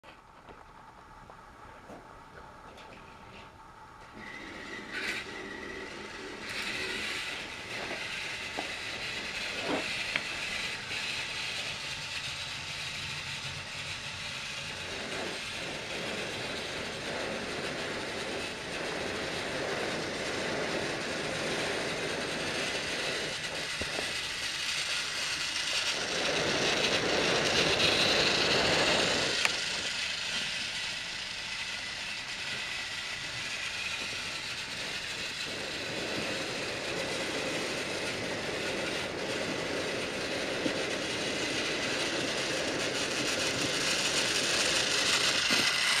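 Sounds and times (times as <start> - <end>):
wheels rattling over track joints: 0.0 - 46.0
toy train motors whirring: 2.7 - 46.0.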